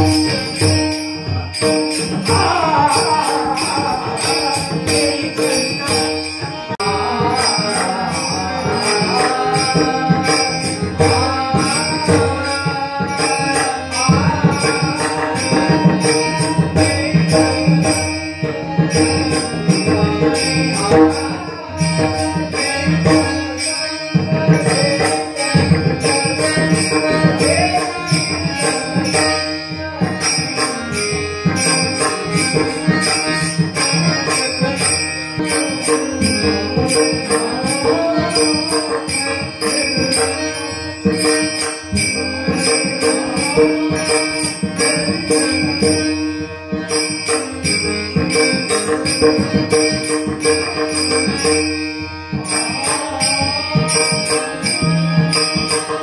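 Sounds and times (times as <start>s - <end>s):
person singing: 0.0s - 30.8s, 31.4s - 51.7s, 52.4s - 56.0s
hand cymbals jingling: 0.0s - 56.0s.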